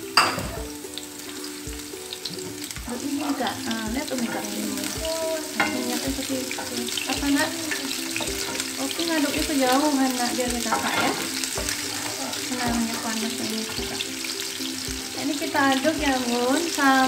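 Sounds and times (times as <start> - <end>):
background music: 0.0 - 17.0
vegetables sizzling in hot oil: 0.0 - 17.0.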